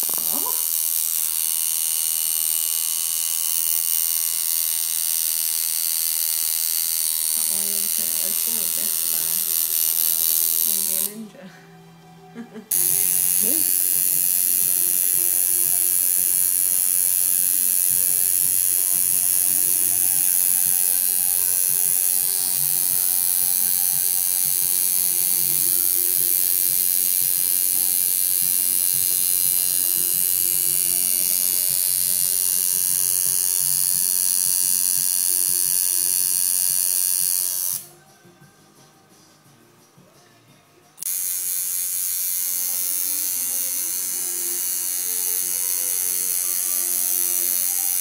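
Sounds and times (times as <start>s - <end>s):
tattoo machine buzzing: 0.0s - 11.2s, 12.7s - 37.9s, 41.0s - 48.0s.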